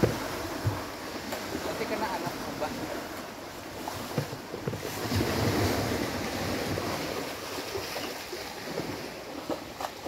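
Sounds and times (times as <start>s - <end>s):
small waves breaking on beach: 0.0s - 10.0s.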